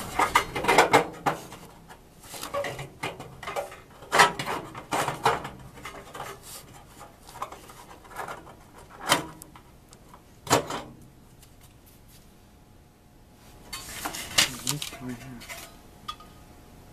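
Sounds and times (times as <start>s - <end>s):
objects knocking and scraping: 0.0s - 10.9s, 13.7s - 16.4s.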